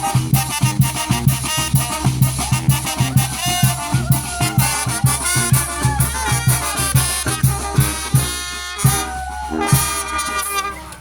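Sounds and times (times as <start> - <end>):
brass band playing upbeat music: 0.0 - 11.0.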